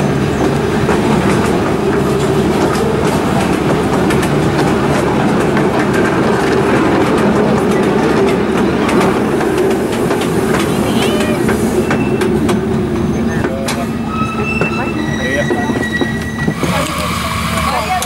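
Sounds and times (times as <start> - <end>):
train carriage rumbling on track: 0.0 - 18.0
wheels clicking over rail joints: 0.0 - 18.0.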